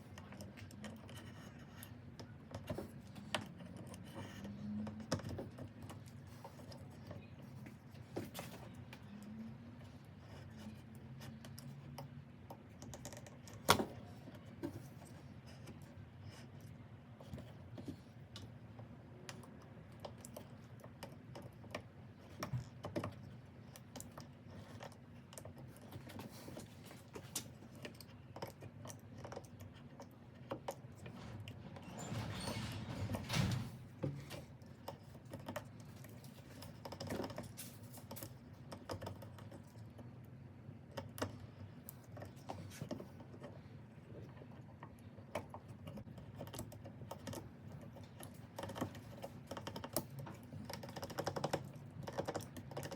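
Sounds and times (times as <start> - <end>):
light clicks and small knocks: 0.1 - 52.9.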